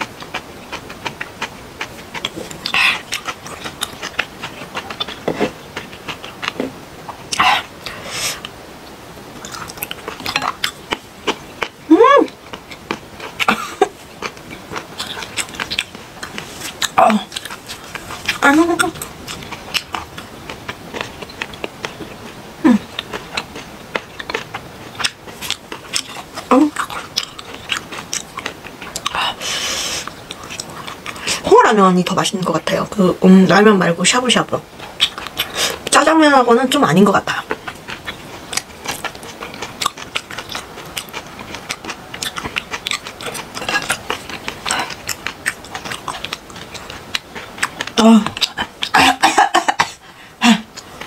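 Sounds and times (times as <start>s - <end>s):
person chewing with wet clicks: 0.0s - 32.9s, 33.5s - 51.0s.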